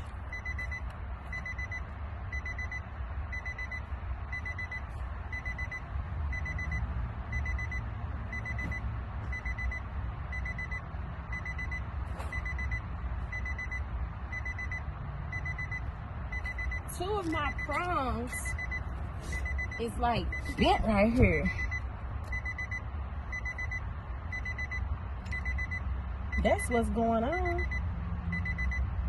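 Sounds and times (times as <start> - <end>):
steady low rumble: 0.0 - 29.0
high electronic beep: 0.3 - 26.8.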